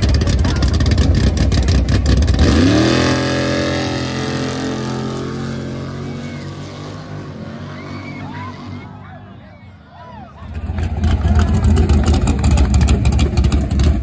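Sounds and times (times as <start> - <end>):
vehicle engine revving: 0.0 - 8.9, 10.5 - 14.0.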